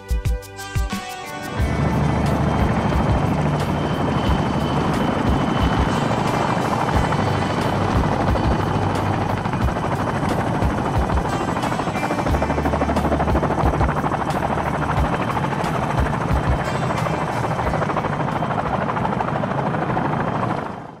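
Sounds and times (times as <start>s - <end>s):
drone propellers buzzing: 1.2s - 20.8s.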